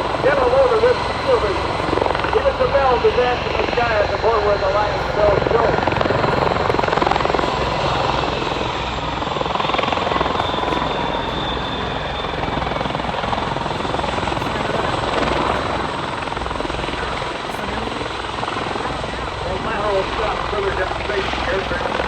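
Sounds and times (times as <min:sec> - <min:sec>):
tiltrotor aircraft thrum: 0:00.0 - 0:22.0.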